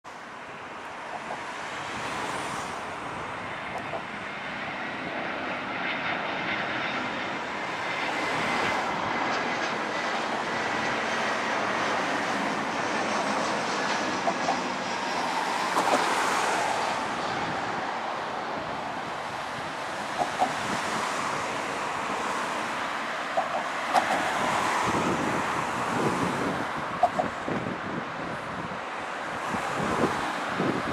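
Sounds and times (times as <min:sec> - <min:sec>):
jet engines rushing: 0:00.1 - 0:30.9.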